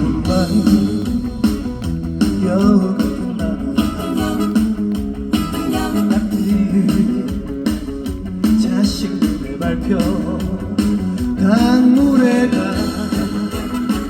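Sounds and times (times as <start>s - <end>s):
person singing: 0.0s - 7.8s, 8.4s - 14.0s
guitar melody: 0.0s - 14.0s
live band playing: 0.0s - 14.0s.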